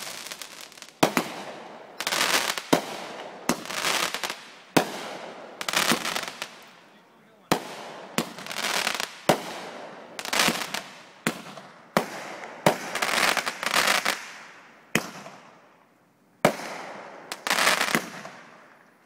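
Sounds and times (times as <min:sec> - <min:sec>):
fireworks banging: 0:00.0 - 0:15.6, 0:16.4 - 0:18.8
fireworks crackling: 0:00.0 - 0:15.8, 0:16.4 - 0:19.0.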